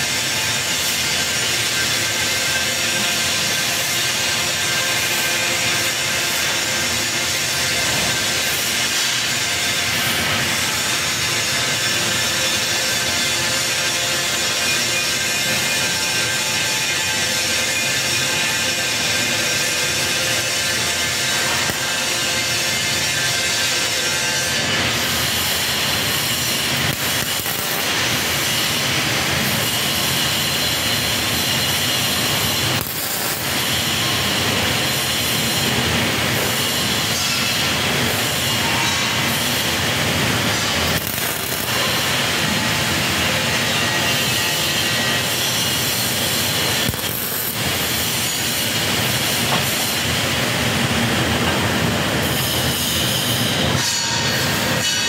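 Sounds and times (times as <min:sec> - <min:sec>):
harsh metalworking noise: 0:00.0 - 0:55.0.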